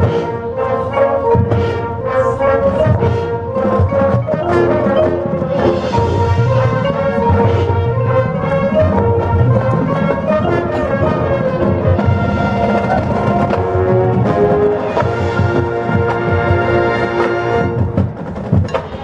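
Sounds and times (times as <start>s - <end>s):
brass chords: 0.0s - 18.2s
drums and timpani: 0.0s - 19.0s.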